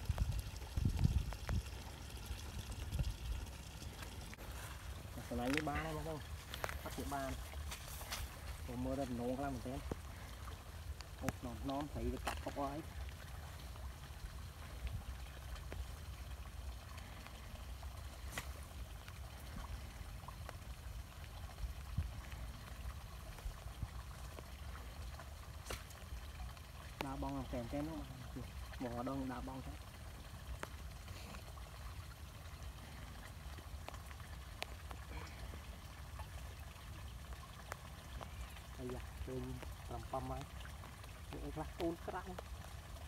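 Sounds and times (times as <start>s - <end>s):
small splashes: 0.0s - 43.0s
water trickling and dripping: 0.0s - 43.0s.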